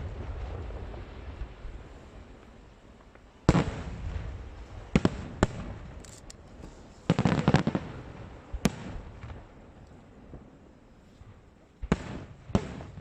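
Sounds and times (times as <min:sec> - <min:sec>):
fireworks bangs: 0:00.0 - 0:09.6, 0:11.8 - 0:13.0
fireworks crackling: 0:00.0 - 0:13.0.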